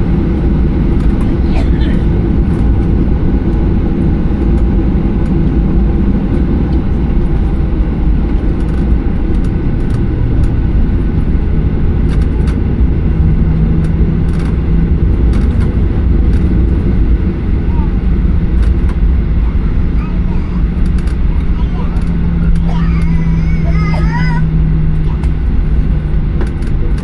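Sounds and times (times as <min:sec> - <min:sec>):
jet engine cabin rumble: 0:00.0 - 0:27.0.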